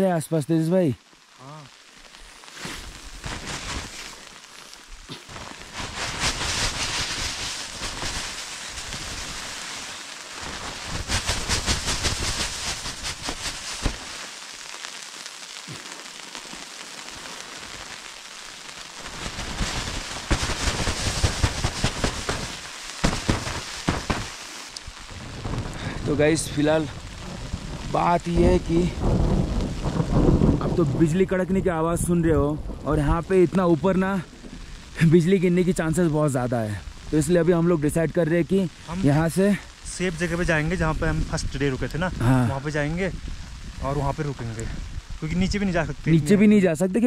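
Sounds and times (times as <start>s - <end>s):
snow hissing against tent fabric: 0.0s - 47.0s.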